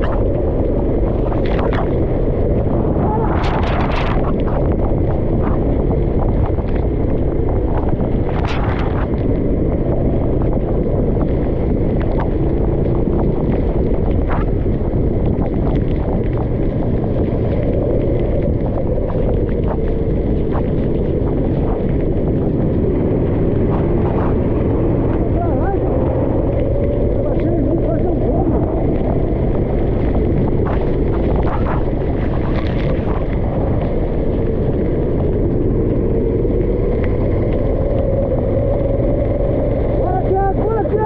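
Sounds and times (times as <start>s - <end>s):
kart engine rumble: 0.0s - 41.0s
wind buffeting microphone: 0.0s - 41.0s.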